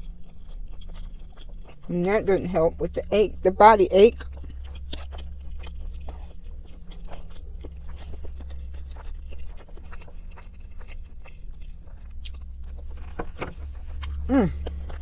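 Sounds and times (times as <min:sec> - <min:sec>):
mouth chewing and crunching: 0:00.0 - 0:15.0
steady low hum: 0:00.0 - 0:15.0.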